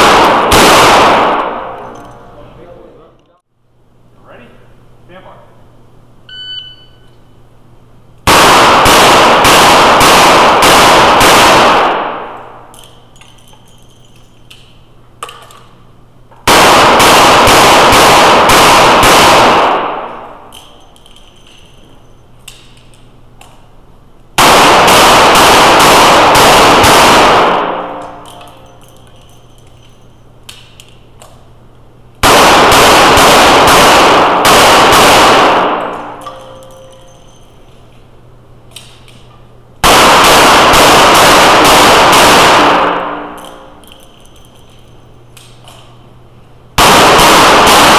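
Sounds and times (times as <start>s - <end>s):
revolver shots echoing indoors: 0.0s - 3.1s, 6.3s - 47.9s.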